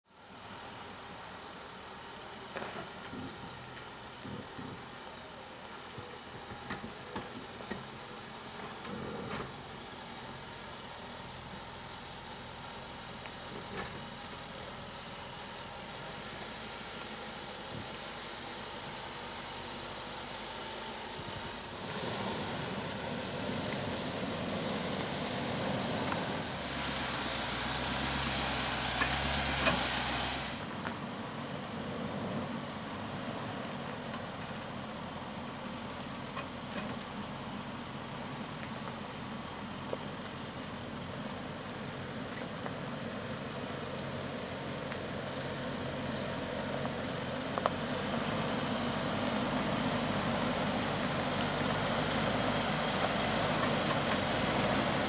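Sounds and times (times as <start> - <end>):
suv engine running at low speed: 0.0 - 55.0.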